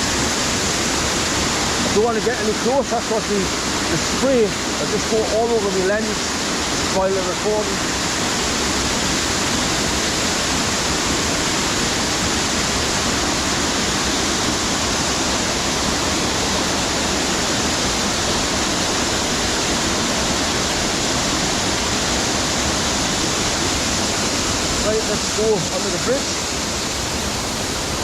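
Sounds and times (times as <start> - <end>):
waterfall crashing onto rocks: 0.0 - 28.0.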